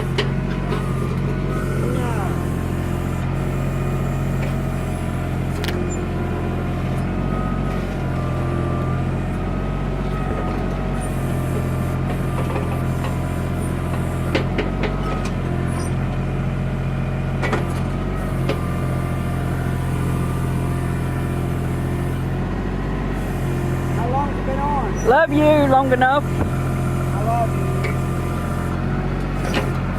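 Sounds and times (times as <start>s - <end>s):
backhoe engine running: 0.0s - 29.9s.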